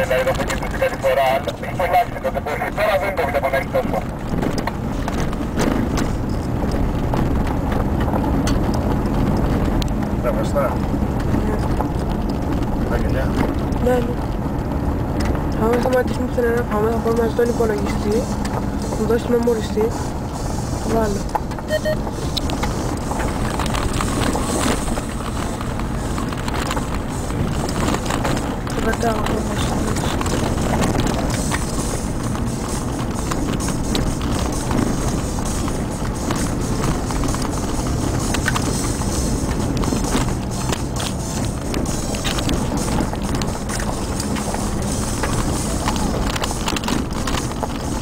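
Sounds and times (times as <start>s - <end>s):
car driving on gravel: 0.0s - 48.0s.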